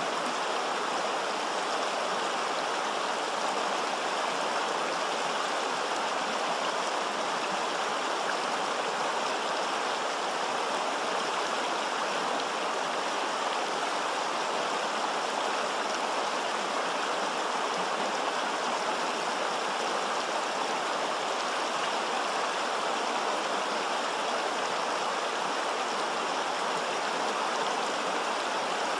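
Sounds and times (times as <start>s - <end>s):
river rushing over stones: 0.0s - 28.9s.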